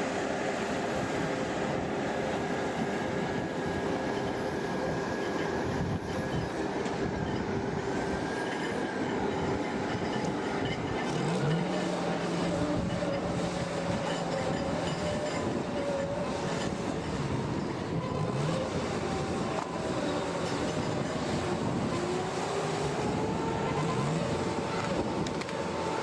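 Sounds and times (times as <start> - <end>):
large engine running: 0.0 - 26.0.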